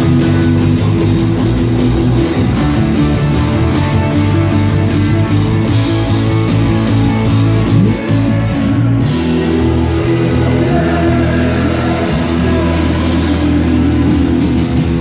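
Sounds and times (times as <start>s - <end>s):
country-rock band playing: 0.0s - 15.0s.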